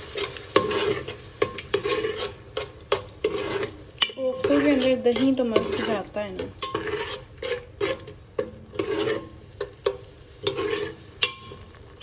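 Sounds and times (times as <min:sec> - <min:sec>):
soft sizzle: 0:00.0 - 0:12.0
spoon scraping metal pot: 0:00.1 - 0:11.8.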